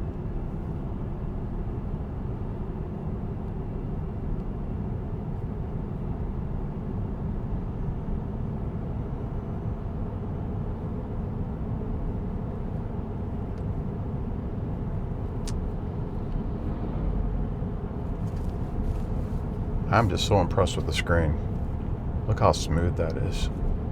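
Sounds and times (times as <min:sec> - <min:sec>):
road and tyre noise in cabin: 0:00.0 - 0:23.9.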